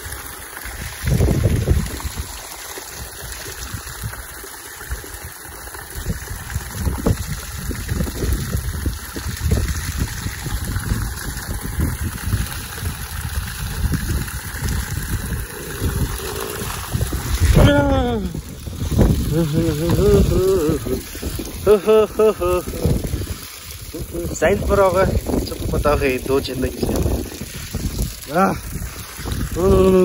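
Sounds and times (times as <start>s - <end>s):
water gushing into plastic can: 0.0s - 30.0s
water splashing on stones: 0.0s - 30.0s.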